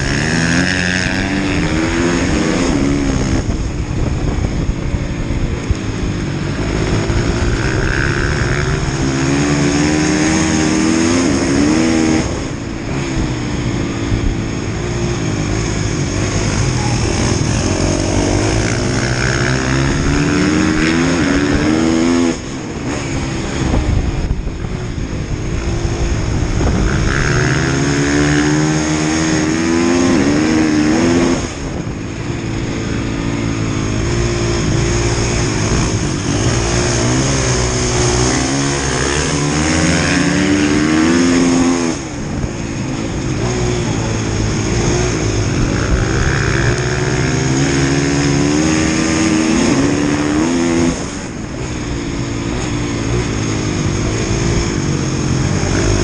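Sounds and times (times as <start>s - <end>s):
motorcycle engine revving: 0.0s - 56.0s
wind on microphone: 0.0s - 56.0s.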